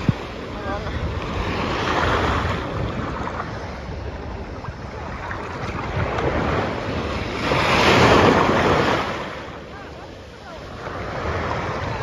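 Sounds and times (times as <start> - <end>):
small waves lapping on sand: 0.0 - 12.0
wind rumbling on microphone: 0.0 - 12.0.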